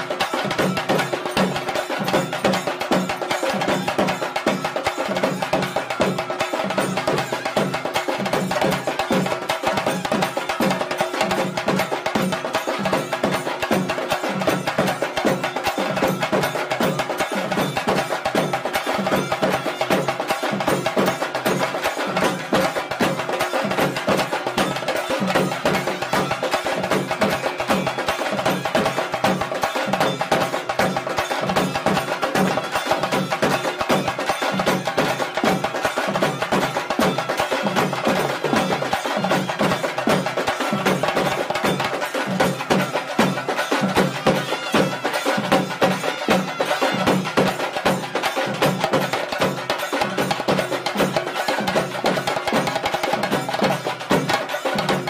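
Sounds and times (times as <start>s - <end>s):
rapid percussion drumming: 0.0s - 55.0s.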